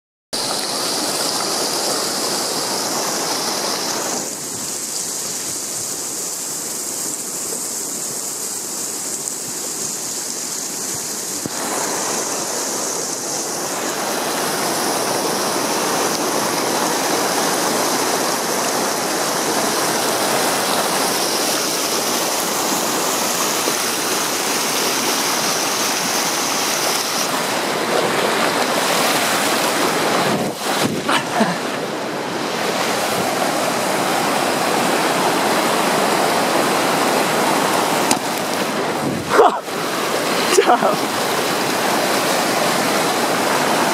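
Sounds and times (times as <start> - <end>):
river rushing over rocks: 0.4 - 43.9.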